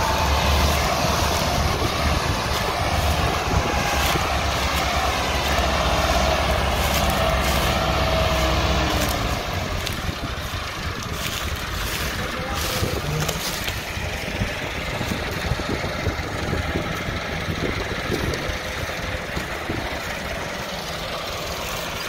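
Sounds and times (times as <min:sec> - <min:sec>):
tractor diesel engines under load: 0:00.0 - 0:22.0.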